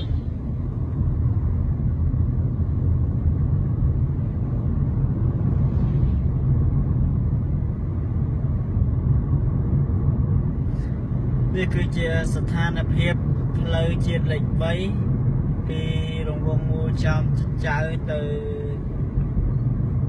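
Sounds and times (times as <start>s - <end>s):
car driving along a road: 0.0s - 20.0s.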